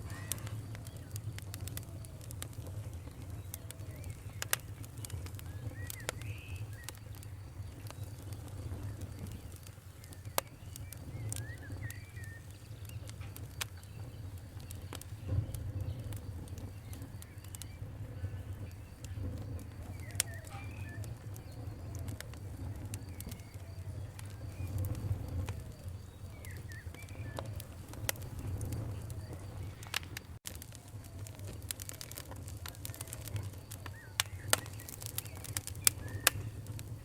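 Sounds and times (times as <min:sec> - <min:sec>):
campfire crackling and popping: 0:00.0 - 0:37.0
low rumble of burning: 0:00.0 - 0:37.0
small birds chirping faintly: 0:00.0 - 0:37.0.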